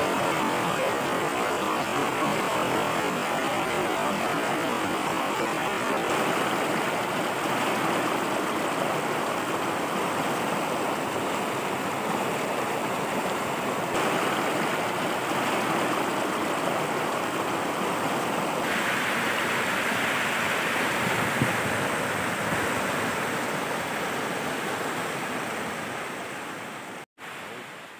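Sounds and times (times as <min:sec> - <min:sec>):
floodwater rushing over rocks: 0:00.0 - 0:27.9.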